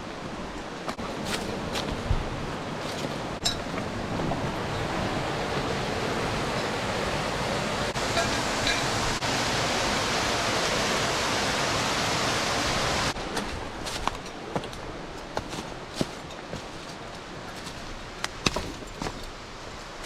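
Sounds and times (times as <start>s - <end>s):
waterfall rushing: 1.0s - 18.2s.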